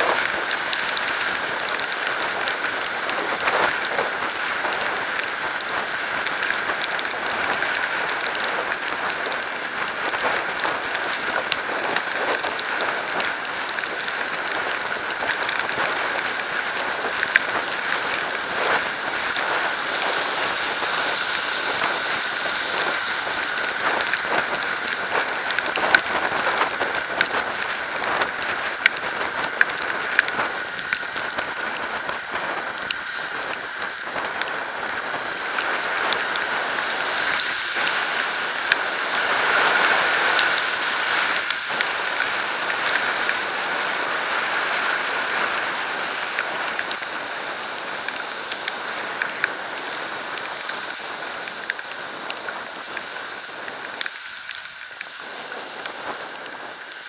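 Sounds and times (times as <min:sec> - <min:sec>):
rain and road spray hissing: 0:00.0 - 0:57.0.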